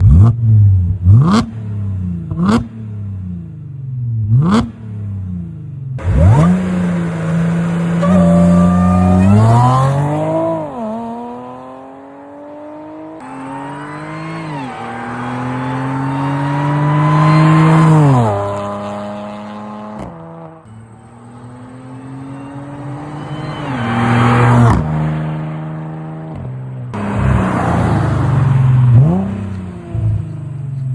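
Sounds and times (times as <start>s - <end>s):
car engine revving: 0.0s - 30.9s
car accelerating through gears: 6.0s - 30.9s.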